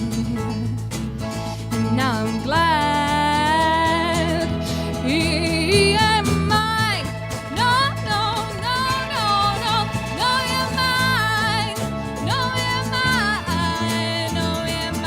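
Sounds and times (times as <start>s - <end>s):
band playing country song: 0.0s - 15.0s
bass: 0.0s - 15.0s
guitar: 0.0s - 15.0s.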